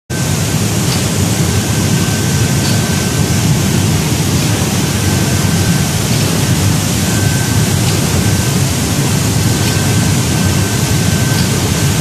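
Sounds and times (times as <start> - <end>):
faint high whine: 0.1 - 12.0.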